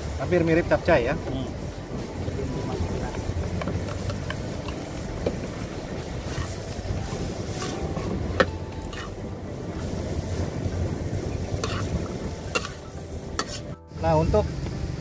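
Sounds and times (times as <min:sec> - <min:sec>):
wind rumbling on microphone: 0:00.1 - 0:13.4.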